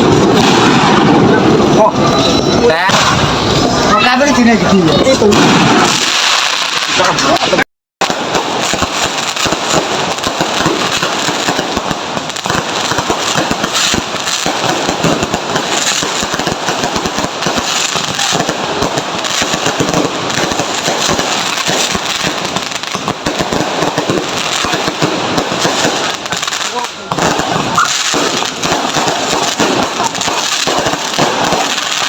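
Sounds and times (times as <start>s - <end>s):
fireworks popping and crackling: 0.0s - 32.0s.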